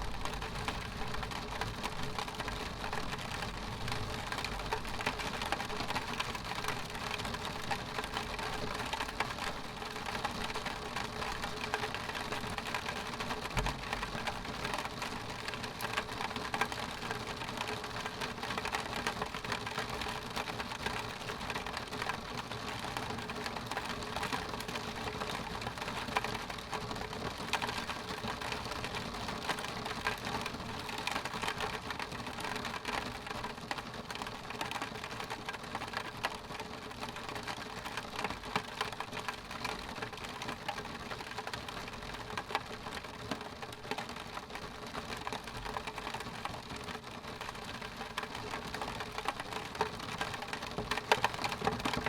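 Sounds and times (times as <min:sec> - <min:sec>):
rain on a glass window: 0:00.0 - 0:52.0.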